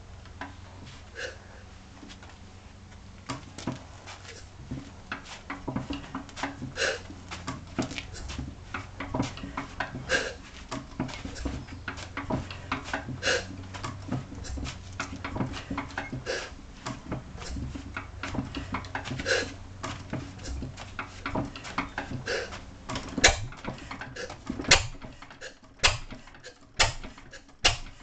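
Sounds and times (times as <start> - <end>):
stationary gas engine running: 3.2 - 28.0
clatter of clicks and knocks: 4.7 - 28.0.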